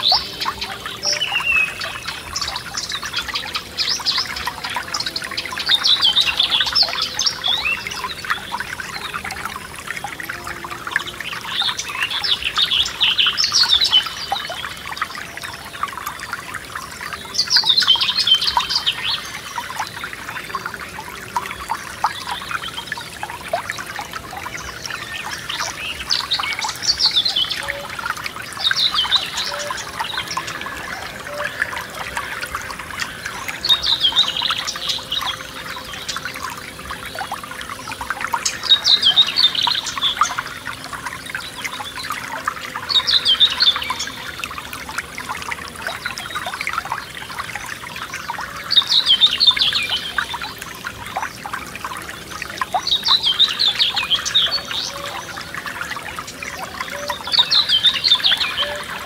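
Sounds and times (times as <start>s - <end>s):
songbird singing: 0.0s - 59.0s
stream trickling over stones: 0.0s - 59.0s.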